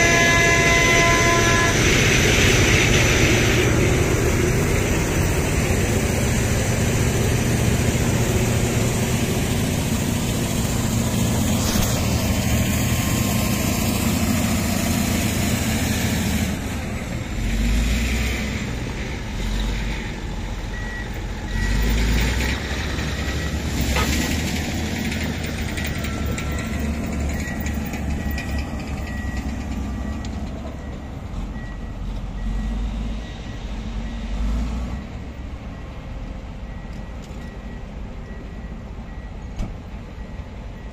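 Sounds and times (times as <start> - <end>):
bulldozer diesel engine working: 0.0 - 40.9.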